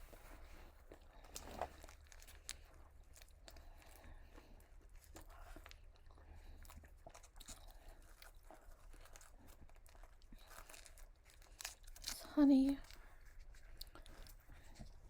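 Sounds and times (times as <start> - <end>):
chewing fried food: 0.1 - 15.0.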